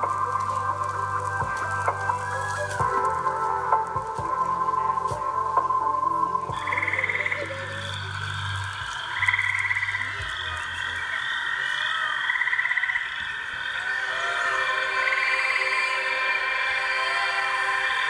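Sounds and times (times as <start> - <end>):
frog pulsed trill: 0.0 - 18.0
high frog chorus: 0.0 - 18.0
low drone: 0.0 - 18.0.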